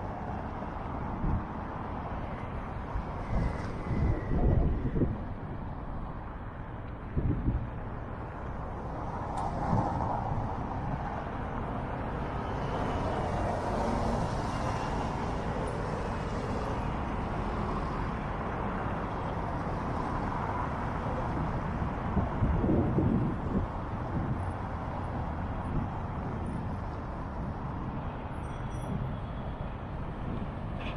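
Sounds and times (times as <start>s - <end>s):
cars passing: 0.0s - 30.9s.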